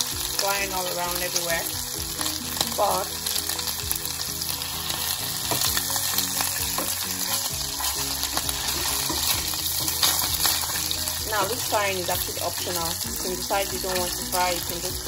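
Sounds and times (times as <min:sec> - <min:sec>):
meatballs sizzling in oil: 0:00.0 - 0:15.0.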